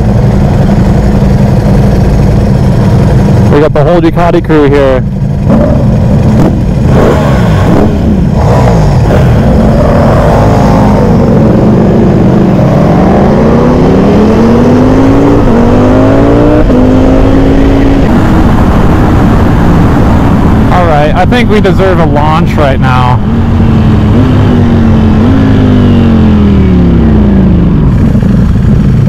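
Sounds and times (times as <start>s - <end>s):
motorcycle engine accelerating hard: 0.0s - 29.0s
motorcycles pulling away: 0.0s - 29.0s.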